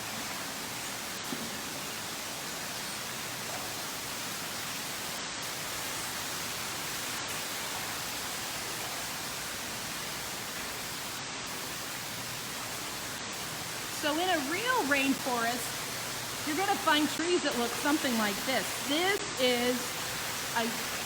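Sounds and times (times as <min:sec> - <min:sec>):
falling water rushing: 0:00.0 - 0:21.0.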